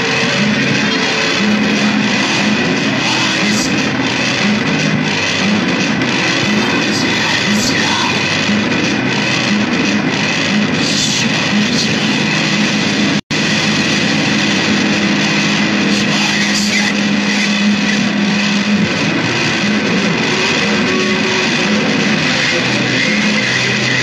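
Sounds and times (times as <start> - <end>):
distorted noise music: 0.0 - 24.0
low steady drone: 0.0 - 24.0.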